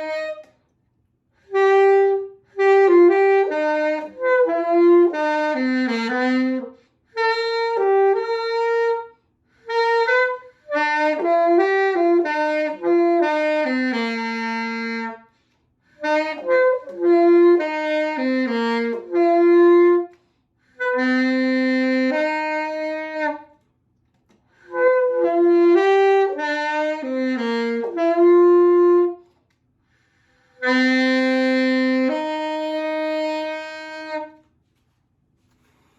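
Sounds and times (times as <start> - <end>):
solo saxophone melody: 0.0 - 0.7, 1.3 - 23.7, 24.4 - 34.9.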